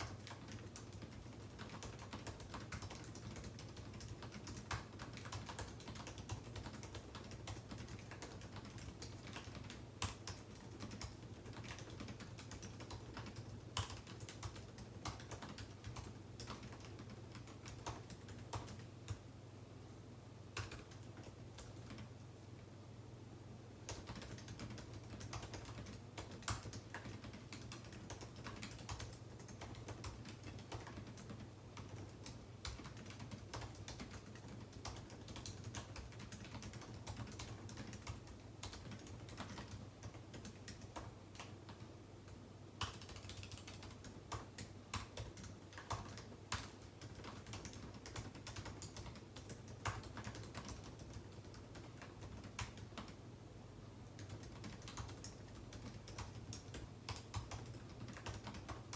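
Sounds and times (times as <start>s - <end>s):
keyboard typing clicks: 0.0s - 19.3s, 20.6s - 22.1s, 23.9s - 53.2s, 54.0s - 58.9s.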